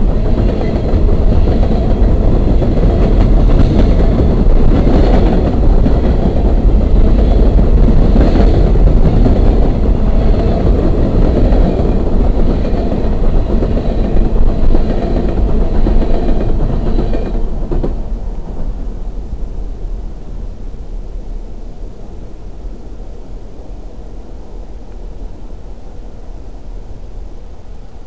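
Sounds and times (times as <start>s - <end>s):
low rumble: 0.0s - 23.8s
freight train cars rolling past: 0.0s - 25.4s.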